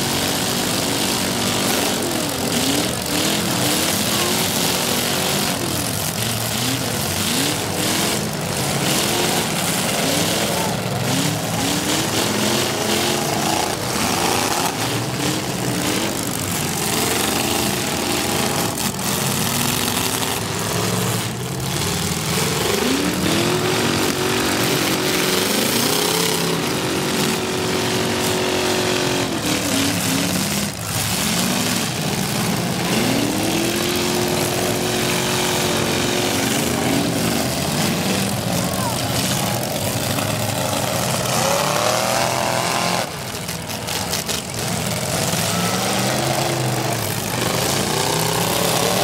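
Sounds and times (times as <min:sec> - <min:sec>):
car engines revving hard: 0:00.0 - 0:49.0.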